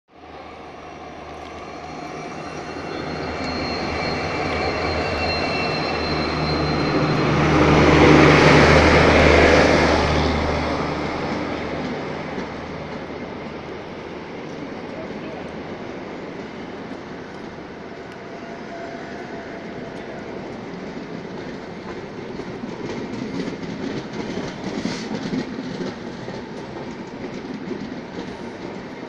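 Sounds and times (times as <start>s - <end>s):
diesel locomotive engine hum: 0.1s - 29.0s
train wheels rumbling: 0.2s - 29.0s.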